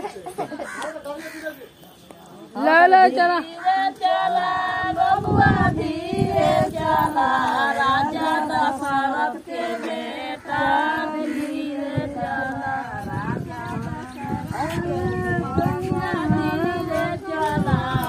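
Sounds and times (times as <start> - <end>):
group of women singing: 2.5 - 18.0.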